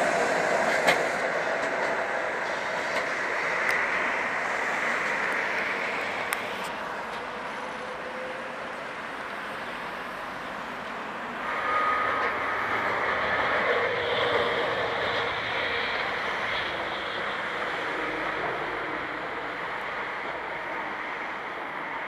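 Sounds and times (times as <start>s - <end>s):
high steady whine: 0.0s - 22.0s
street traffic: 0.0s - 22.0s
tram rolling on rails: 0.0s - 22.0s.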